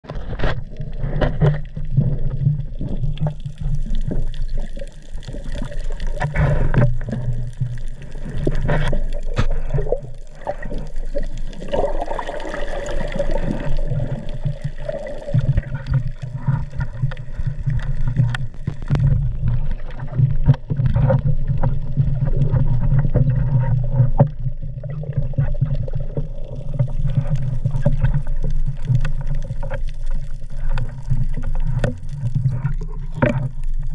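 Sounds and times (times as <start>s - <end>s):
clicks and knocks underwater: 0.0s - 33.9s
low underwater rumble: 0.0s - 33.9s.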